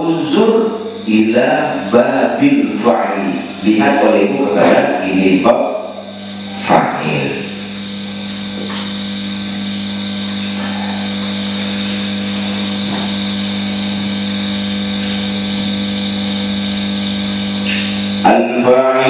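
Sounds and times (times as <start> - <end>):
electrical hum: 0.0 - 19.0
pulsing high-pitched chirp: 0.3 - 18.5.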